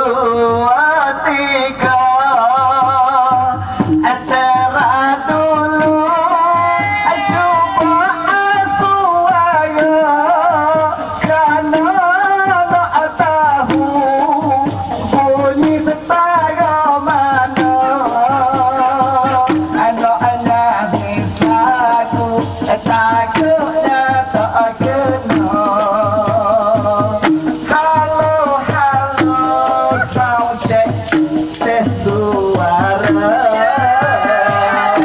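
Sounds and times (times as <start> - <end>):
rattling shaker beat: 2.8 - 35.0.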